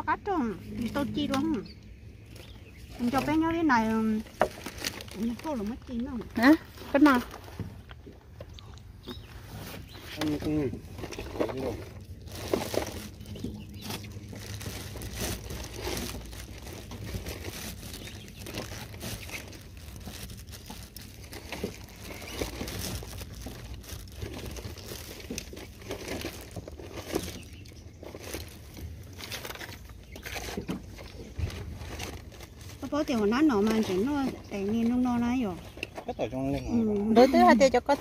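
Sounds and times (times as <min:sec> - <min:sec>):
steady low hum: 0:00.0 - 0:38.0
plastic bag crinkling: 0:00.2 - 0:08.3, 0:09.1 - 0:36.0.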